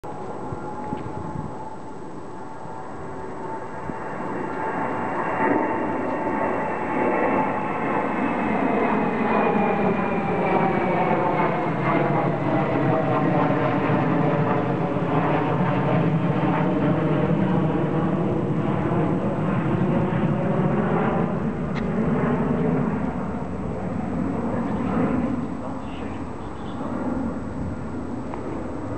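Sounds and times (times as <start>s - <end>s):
jet aircraft flying over: 0.0s - 28.9s.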